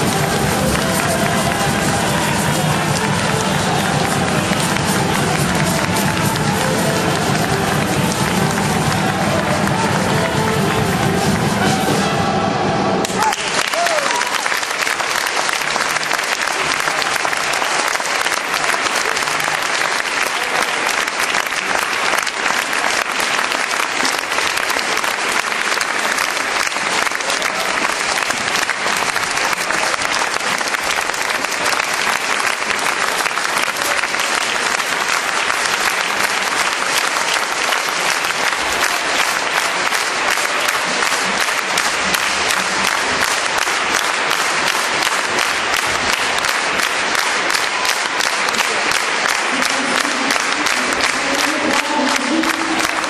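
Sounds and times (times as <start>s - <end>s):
audience applauding: 0.0s - 12.3s, 13.0s - 53.0s.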